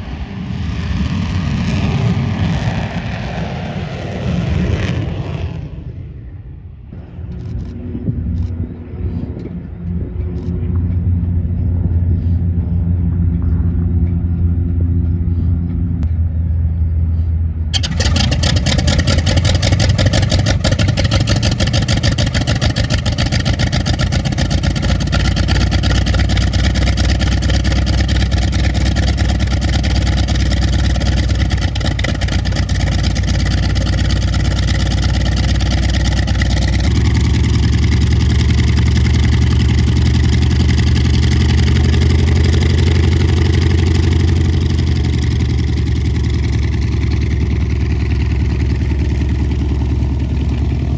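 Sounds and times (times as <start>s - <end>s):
aircraft engines pulsing: 0.0s - 50.9s
deep wavering engine note: 6.8s - 50.9s.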